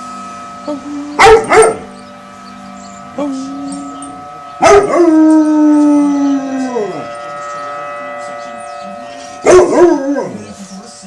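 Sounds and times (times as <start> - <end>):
tornado siren wail: 0.0 - 10.8
dog howling: 0.7 - 2.0, 3.0 - 10.5.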